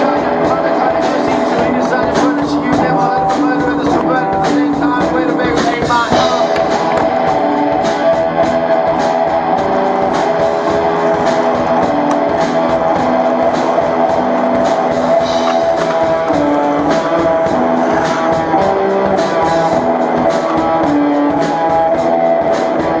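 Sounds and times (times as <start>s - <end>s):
rock music: 0.0s - 23.0s.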